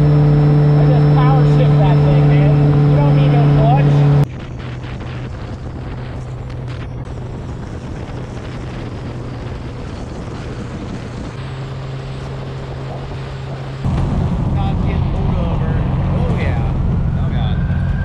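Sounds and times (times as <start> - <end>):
car engine droning: 0.0 - 18.0
road noise: 0.0 - 18.0
wind noise: 0.0 - 18.0.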